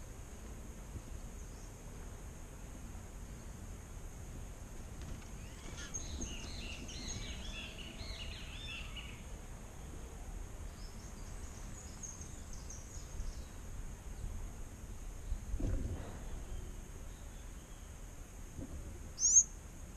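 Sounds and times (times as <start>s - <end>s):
small songbirds chirping: 0.0s - 4.0s, 4.6s - 18.2s, 19.0s - 19.7s.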